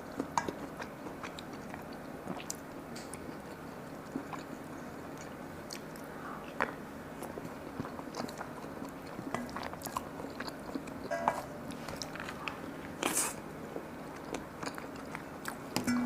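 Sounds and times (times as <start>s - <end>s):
person chewing food: 0.0s - 15.9s.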